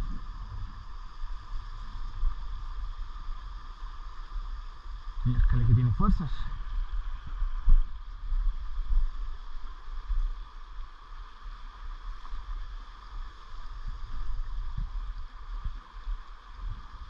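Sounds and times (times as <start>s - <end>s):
low rumble on the microphone: 0.0s - 17.0s.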